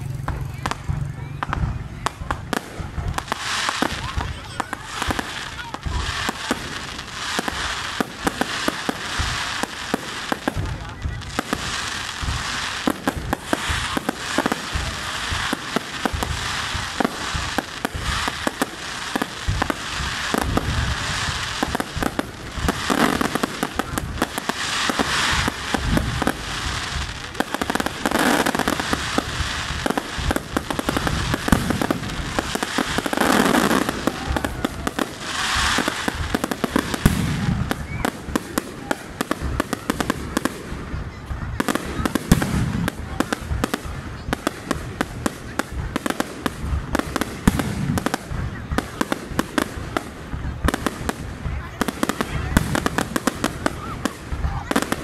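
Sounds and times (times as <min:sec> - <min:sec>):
fireworks bangs and pops: 0:00.0 - 0:55.0
hissing crackle: 0:00.2 - 0:55.0.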